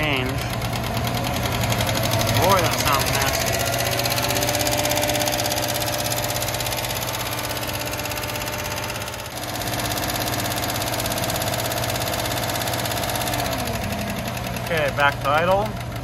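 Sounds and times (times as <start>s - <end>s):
engine running above idle: 0.0s - 16.0s.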